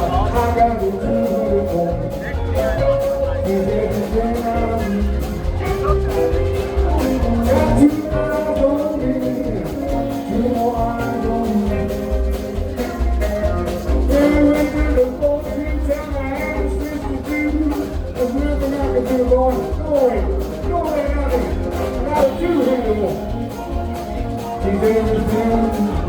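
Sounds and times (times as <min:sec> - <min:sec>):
drum beat: 0:00.0 - 0:26.0
live blues band: 0:00.0 - 0:26.0.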